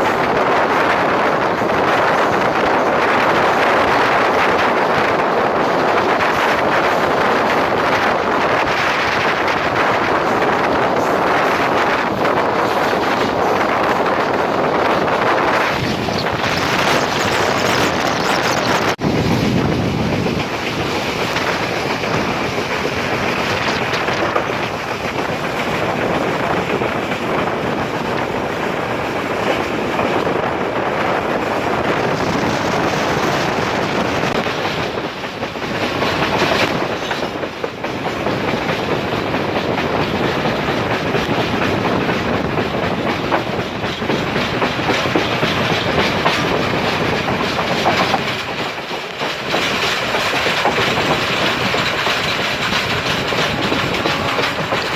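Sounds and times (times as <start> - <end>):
train wheels rumbling on rail: 0.0 - 54.9
wheels clickety-clack over rail joints: 0.0 - 54.9.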